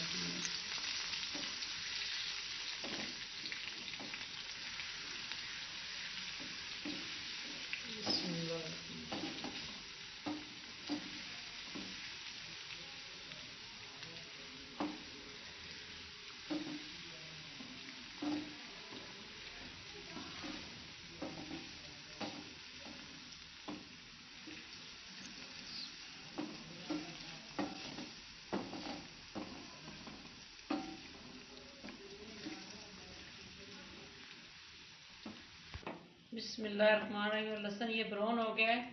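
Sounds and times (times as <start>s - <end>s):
garlic sizzling in oil: 0.0s - 38.6s.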